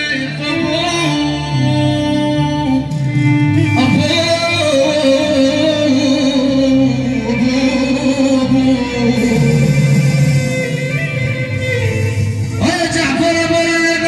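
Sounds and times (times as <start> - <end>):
man singing into a microphone: 0.0 - 11.9, 12.5 - 14.0
instrumental accompaniment: 0.0 - 14.0.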